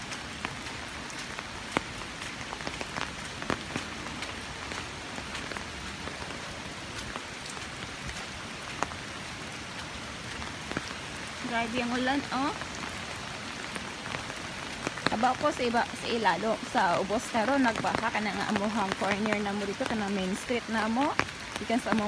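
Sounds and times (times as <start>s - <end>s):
heavy rain hissing: 0.0s - 22.0s
raindrops ticking nearby: 0.0s - 22.0s.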